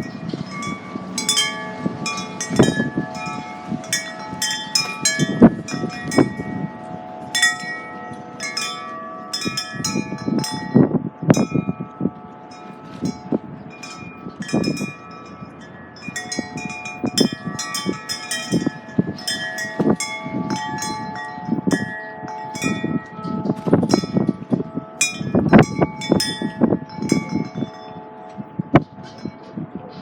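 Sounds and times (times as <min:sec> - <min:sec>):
wind chimes ringing: 0:00.0 - 0:30.0
wind gusts rumbling: 0:00.0 - 0:30.0.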